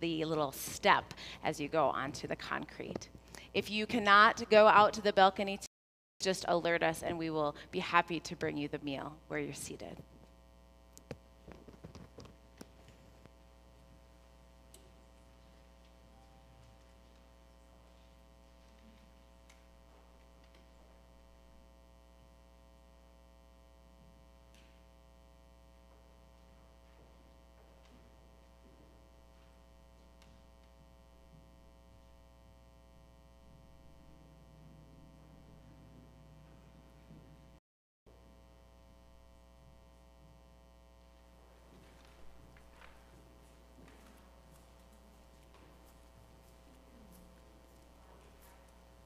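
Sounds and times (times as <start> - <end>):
electrical hum: 0.0 - 49.0.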